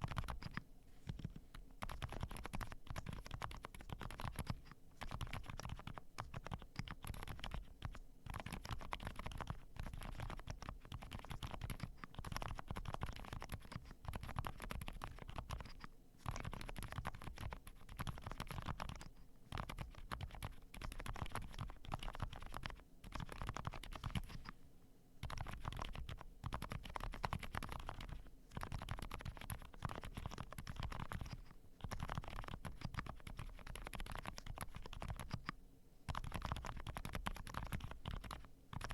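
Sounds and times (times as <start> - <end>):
mechanical keyboard typing: 0.0 - 24.5, 25.2 - 38.9.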